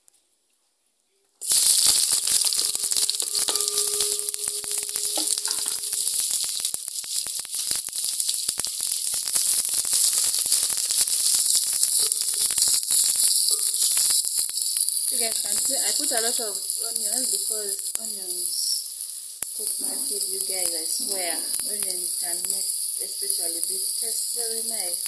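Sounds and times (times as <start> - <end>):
onions sizzling in hot oil: 1.4 - 25.0.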